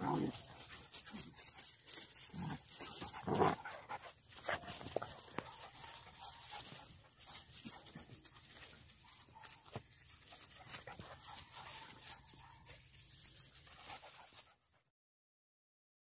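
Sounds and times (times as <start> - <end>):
puppies scuffling in dry leaves: 0.0 - 14.7
puppy noises: 0.0 - 14.8.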